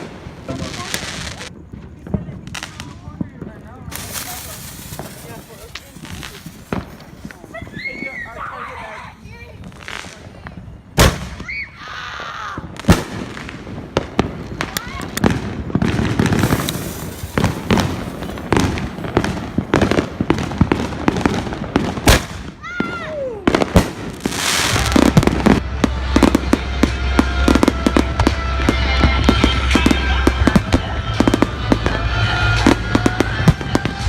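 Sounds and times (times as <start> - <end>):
fireworks crackling and banging: 0.0 - 34.0
whistling firework: 0.0 - 34.0.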